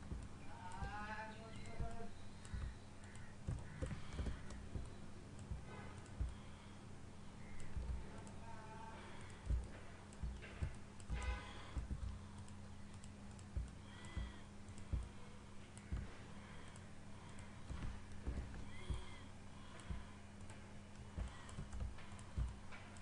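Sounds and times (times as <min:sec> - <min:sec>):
keyboard and mouse clicking: 0:00.0 - 0:06.5, 0:07.4 - 0:15.1, 0:15.7 - 0:23.0
steady low hum: 0:00.0 - 0:23.0.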